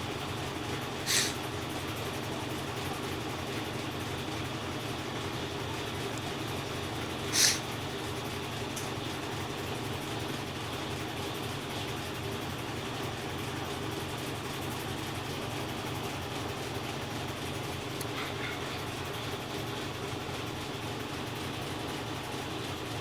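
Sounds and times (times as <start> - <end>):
washing machine spinning: 0.0 - 23.0.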